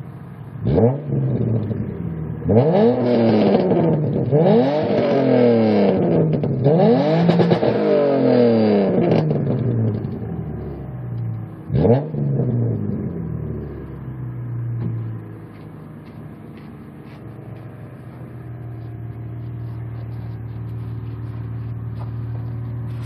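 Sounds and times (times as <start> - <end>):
car exhaust revving and idling: 0.0 - 23.0.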